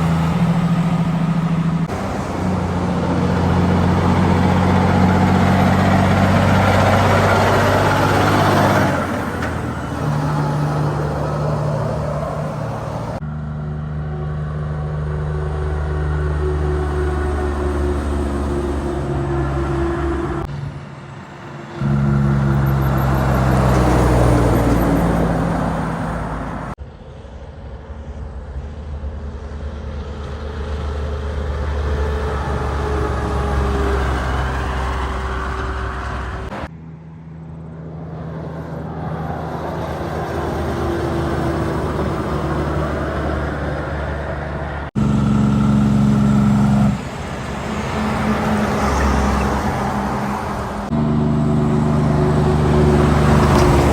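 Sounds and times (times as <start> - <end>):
diesel trucks driving past: 0.0 - 53.9
road noise: 0.0 - 53.9.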